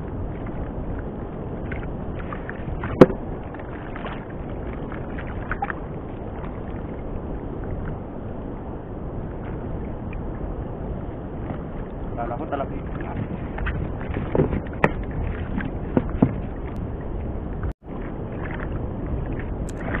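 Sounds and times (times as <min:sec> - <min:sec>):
wind and sea water rushing: 0:00.0 - 0:20.0.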